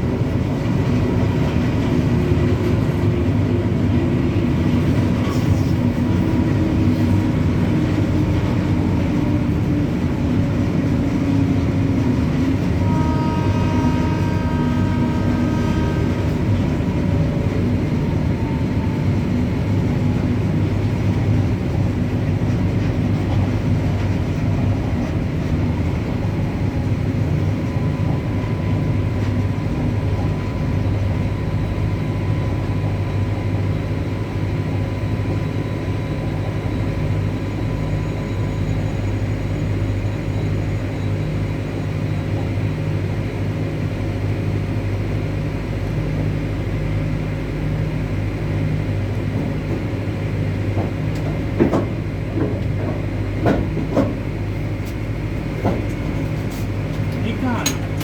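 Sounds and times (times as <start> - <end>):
electric locomotive hum: 0.0 - 58.0.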